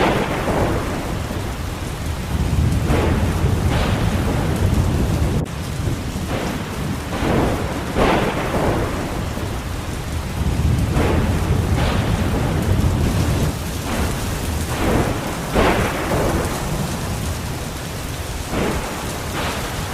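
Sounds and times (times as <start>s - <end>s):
heavy rain: 0.0s - 19.9s
low rumble of thunder: 0.0s - 19.9s.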